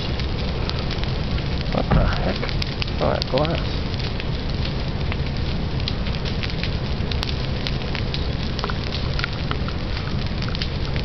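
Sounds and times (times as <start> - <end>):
fire crackles and pops: 0.0 - 11.0
flames rushing up tree: 0.0 - 11.0.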